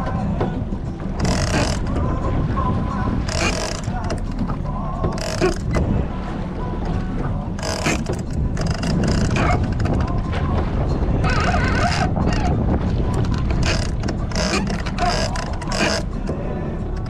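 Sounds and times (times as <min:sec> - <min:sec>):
boat engine rumble: 0:00.0 - 0:17.0
water splashing along hull: 0:00.0 - 0:17.0
wind on microphone: 0:00.0 - 0:17.0.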